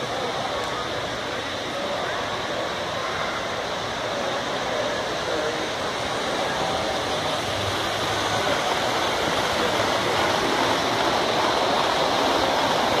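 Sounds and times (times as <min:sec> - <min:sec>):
model trains rumbling on track: 0:00.0 - 0:13.0.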